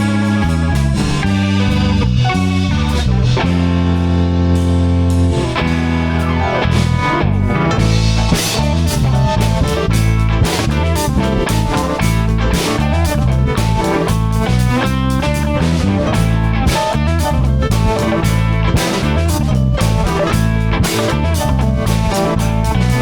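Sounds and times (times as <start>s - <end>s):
bass: 0.0s - 23.0s
drum kit beat: 0.0s - 23.0s
electric guitar: 0.0s - 23.0s.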